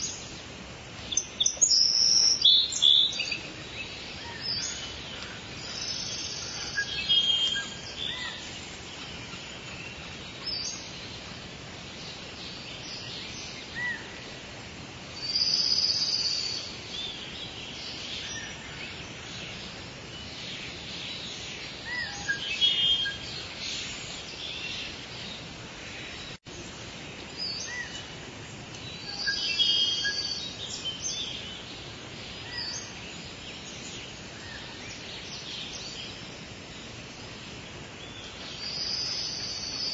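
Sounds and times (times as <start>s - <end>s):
birds chirping: 0.0s - 39.9s
soft rain falling: 0.0s - 39.9s.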